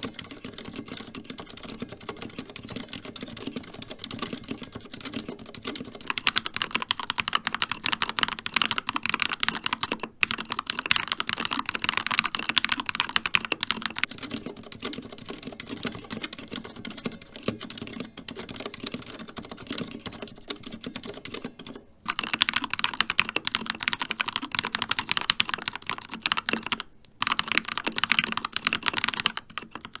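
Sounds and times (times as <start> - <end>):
loud bright keyboard clacks: 0.0 - 30.0
quiet muffled keyboard typing: 0.0 - 30.0.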